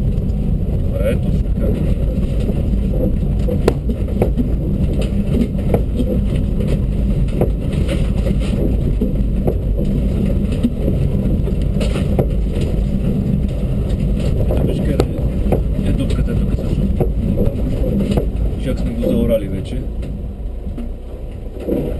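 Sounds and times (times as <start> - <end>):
engine and road drone: 0.0 - 21.9
knocks and rattles: 0.0 - 21.9.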